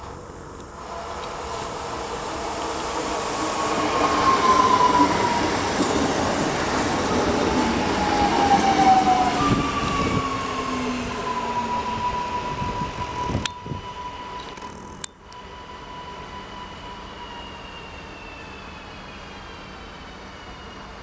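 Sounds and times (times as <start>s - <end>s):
electric train whine: 0.0s - 21.0s
train wheels rumbling on rails: 0.0s - 21.0s.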